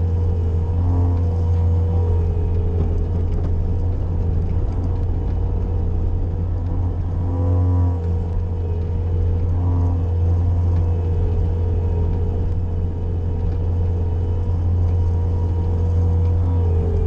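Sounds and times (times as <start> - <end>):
loader engine droning: 0.0 - 17.0
steady whine: 0.0 - 17.0.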